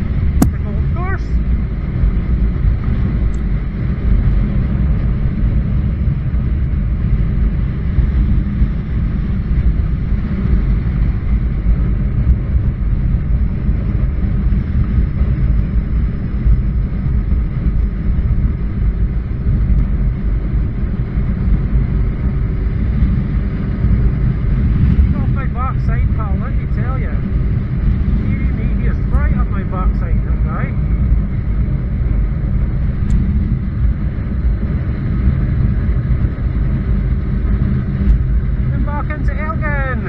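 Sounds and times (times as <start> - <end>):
wind noise on microphone: 0.0 - 40.0.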